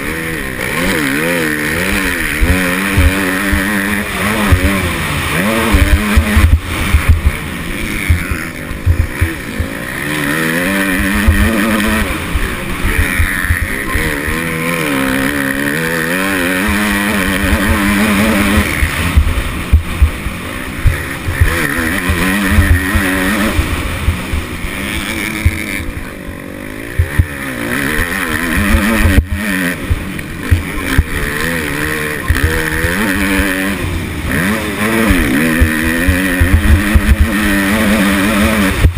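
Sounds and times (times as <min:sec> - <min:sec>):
motocross bike engine racing: 0:00.0 - 0:38.9.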